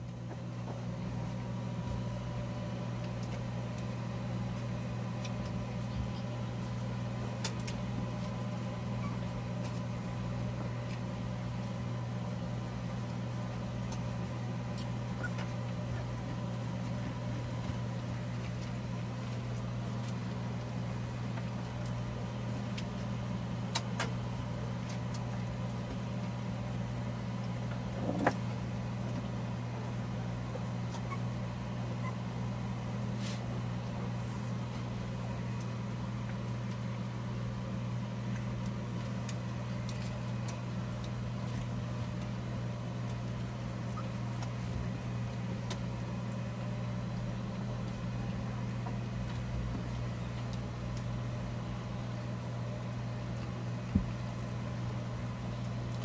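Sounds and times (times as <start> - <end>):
electric fan humming: 0.0 - 56.0.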